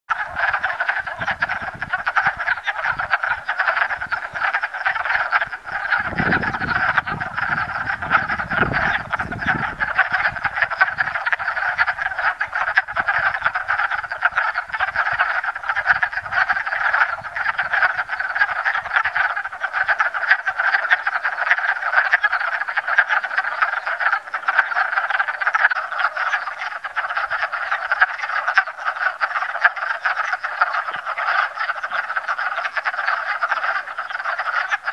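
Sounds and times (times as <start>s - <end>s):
chorus of frogs chattering: 0.1s - 34.9s.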